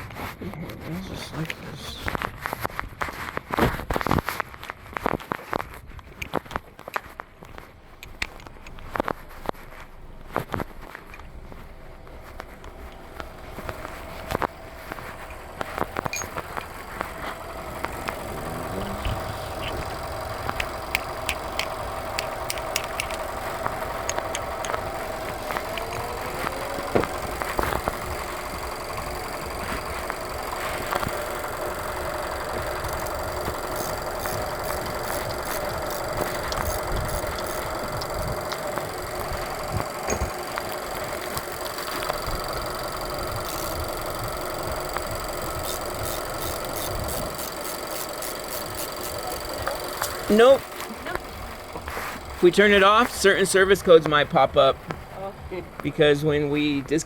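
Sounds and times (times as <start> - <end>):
car engine idling: 6.0 - 57.0.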